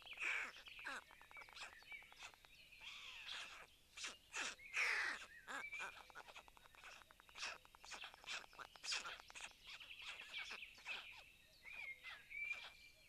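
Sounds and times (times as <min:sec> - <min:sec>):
wild birds chirping and calling: 0:00.0 - 0:13.0.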